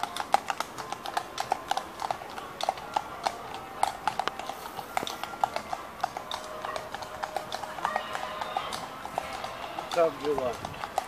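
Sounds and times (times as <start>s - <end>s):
horse hooves on brick: 0.0s - 11.0s.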